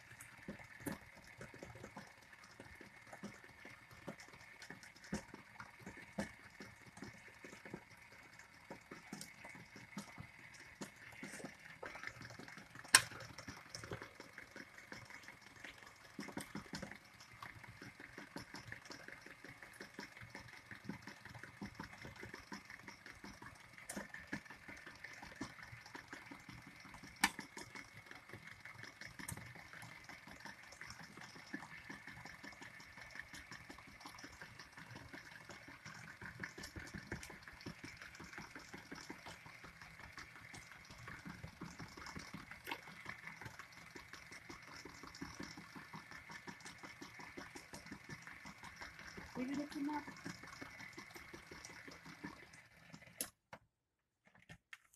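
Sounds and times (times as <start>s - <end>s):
electric stand mixer running: 0.0s - 53.4s.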